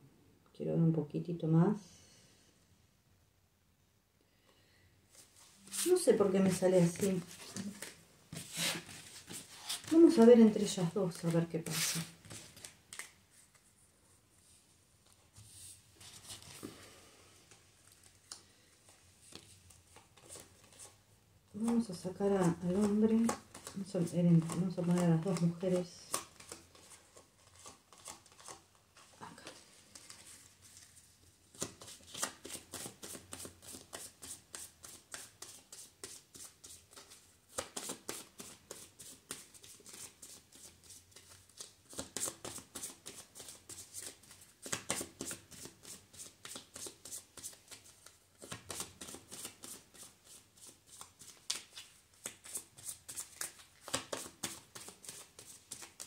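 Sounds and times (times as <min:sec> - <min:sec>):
cards being shuffled by hand: 0:05.1 - 0:13.7, 0:17.5 - 0:56.0.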